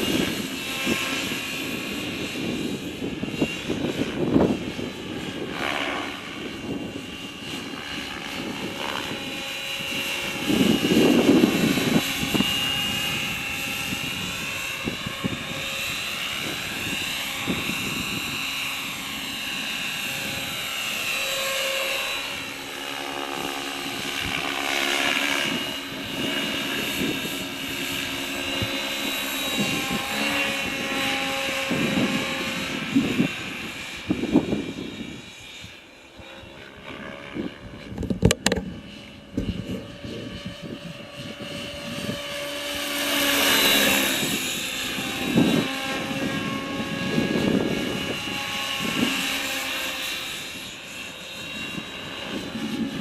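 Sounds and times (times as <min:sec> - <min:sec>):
wind gusts on microphone: 0:00.0 - 0:22.5, 0:23.3 - 0:53.0
rc helicopter motor whine: 0:00.0 - 0:53.0.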